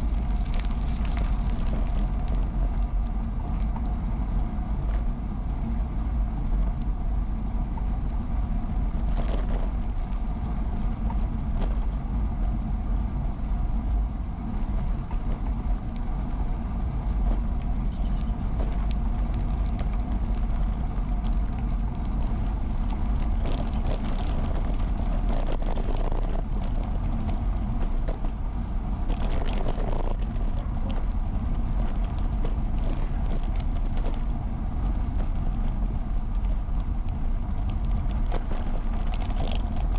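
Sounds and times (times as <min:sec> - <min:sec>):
bicycle rattles: 0:00.0 - 0:39.9
bicycle tyres and wind rumble: 0:00.0 - 0:39.9.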